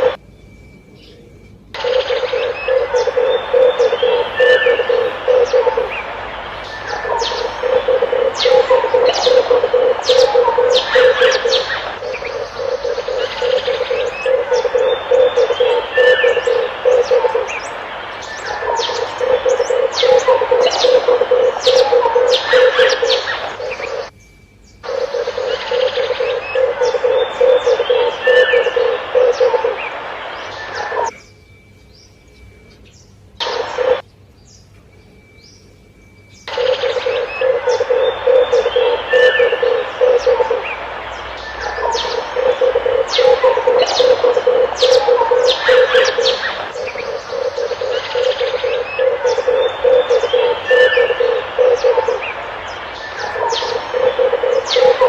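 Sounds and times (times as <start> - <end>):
small birds chirping: 0.0 - 55.0
dove rolling coo: 1.8 - 24.1, 24.9 - 31.1, 36.5 - 55.0.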